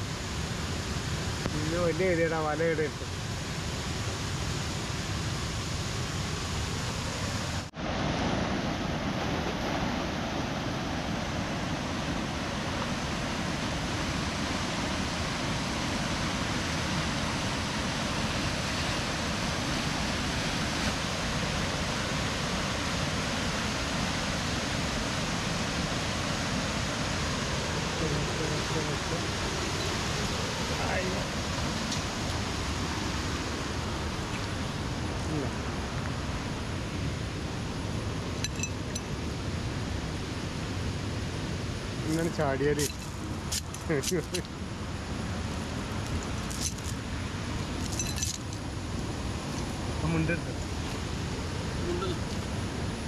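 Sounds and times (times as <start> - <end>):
water rushing over weir: 0.0 - 53.0.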